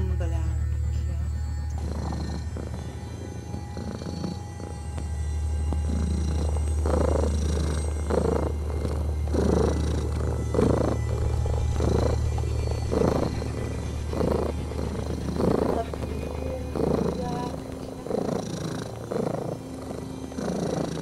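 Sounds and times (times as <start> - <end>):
background music: 0.0 - 21.0
cat purring: 0.0 - 21.0.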